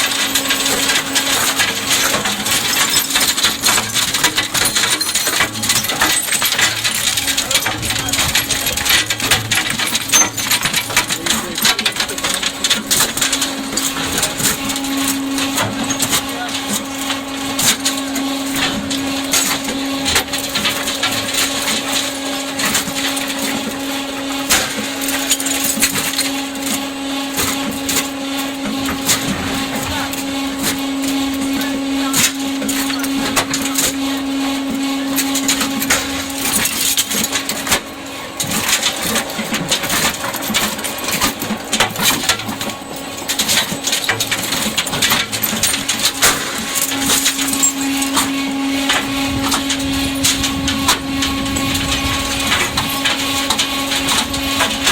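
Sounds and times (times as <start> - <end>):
metal clattering and crashing: 0.0 - 54.9
motor hum: 0.0 - 54.9.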